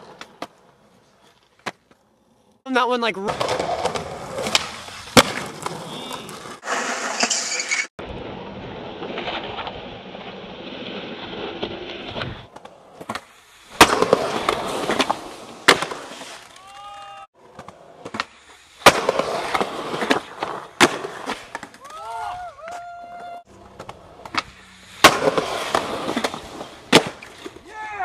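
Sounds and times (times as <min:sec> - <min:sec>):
skateboard popping and landing: 0:00.0 - 0:02.6, 0:03.3 - 0:07.9, 0:08.6 - 0:27.7
skateboard wheels rolling on concrete: 0:00.0 - 0:28.0.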